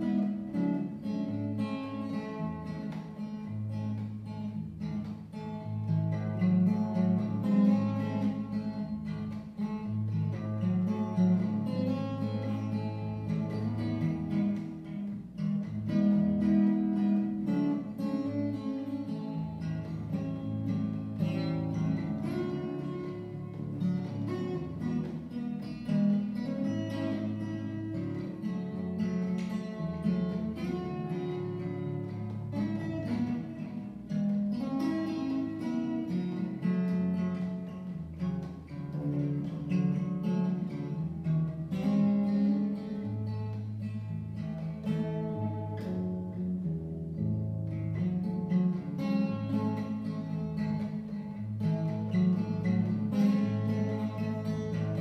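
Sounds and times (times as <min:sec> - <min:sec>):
fingerstyle acoustic guitar: 0:00.0 - 0:55.0.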